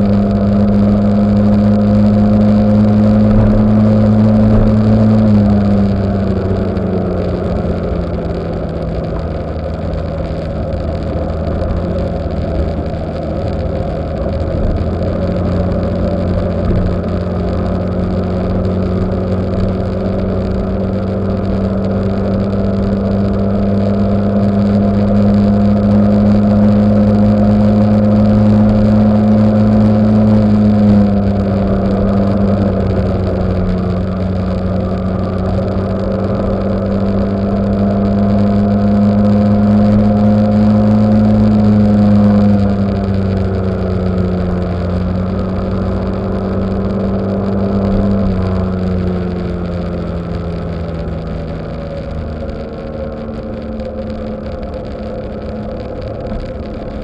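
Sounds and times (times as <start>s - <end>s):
road and wind noise: 0.0s - 57.0s
scooter engine running: 0.0s - 57.0s.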